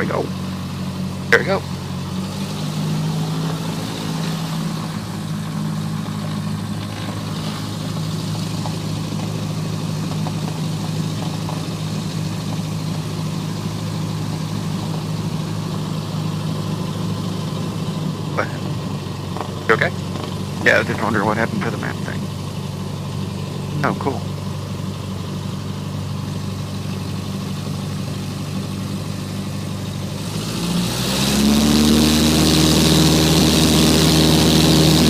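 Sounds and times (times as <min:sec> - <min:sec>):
propeller plane engine drone: 0:00.0 - 0:35.0.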